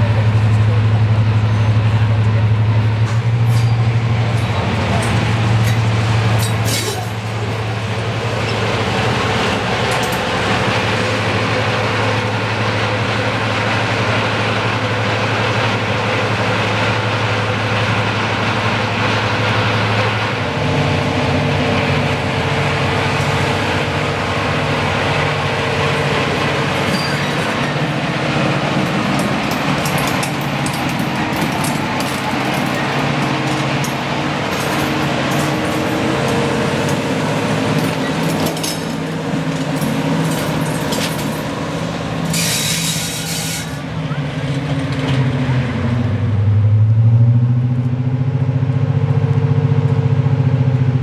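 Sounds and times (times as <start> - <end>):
diesel locomotive engine drone: 0.0 - 51.0.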